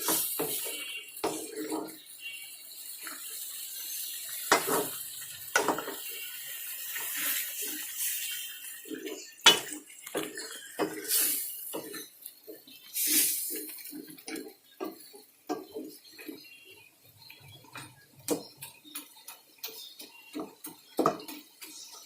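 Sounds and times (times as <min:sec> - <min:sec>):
dishes and utensils clinking: 0:00.0 - 0:02.1, 0:04.0 - 0:22.0
water running: 0:00.0 - 0:22.0.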